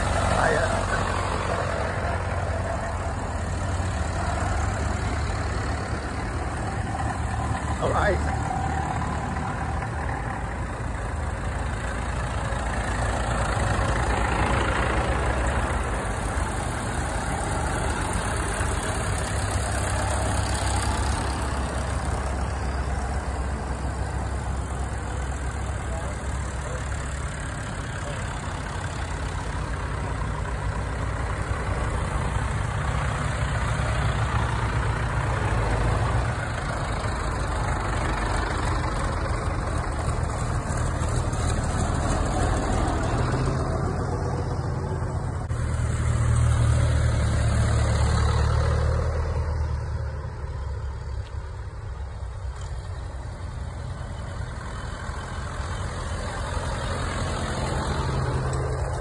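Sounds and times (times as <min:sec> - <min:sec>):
tractor engines passing: 0:00.0 - 0:59.0.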